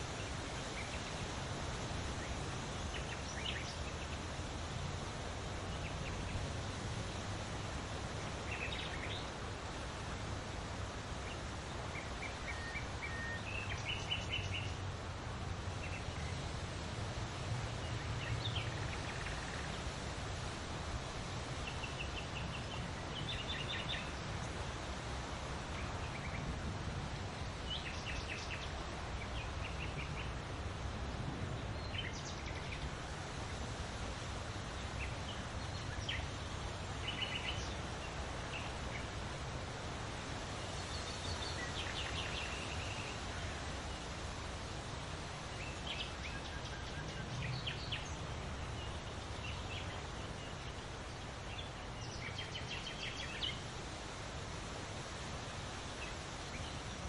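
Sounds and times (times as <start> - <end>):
low background noise: 0.0 - 57.0
songbirds chirping and trilling: 0.0 - 57.0.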